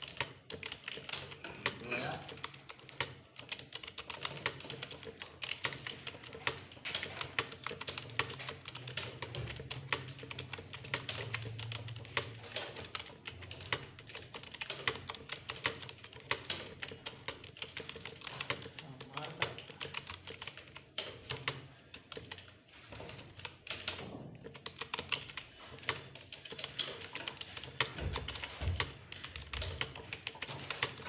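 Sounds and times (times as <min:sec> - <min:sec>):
fast keyboard typing: 0:00.0 - 0:31.0.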